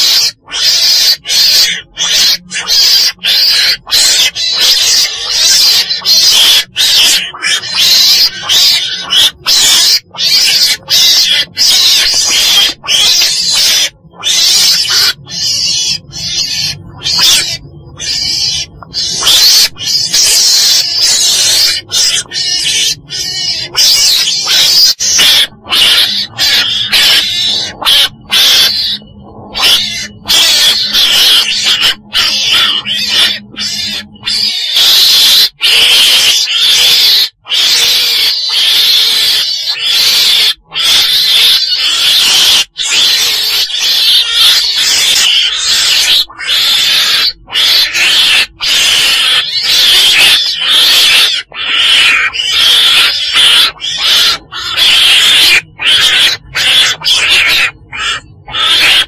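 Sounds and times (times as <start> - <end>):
ferret badger screeching cries: 0.0 - 59.0
weasel harsh raspy calls: 0.0 - 59.0.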